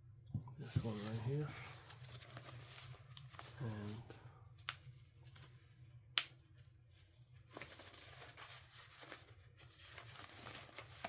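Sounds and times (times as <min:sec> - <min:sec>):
packaging rustling and crinkling: 0:00.7 - 0:05.8, 0:06.9 - 0:11.0.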